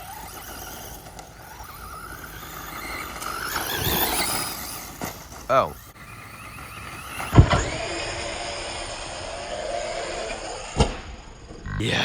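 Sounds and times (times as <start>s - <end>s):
electric motor whining: 0.0s - 10.8s.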